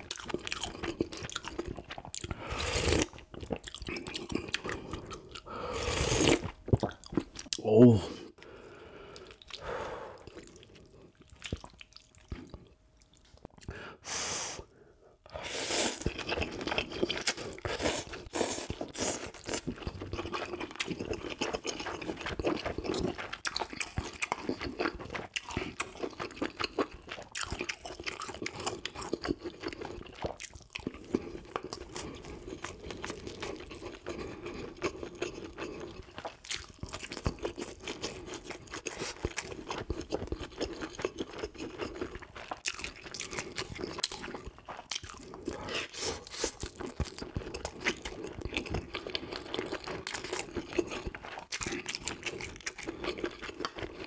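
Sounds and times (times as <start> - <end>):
person chewing: 0.0 - 13.8, 15.3 - 54.0.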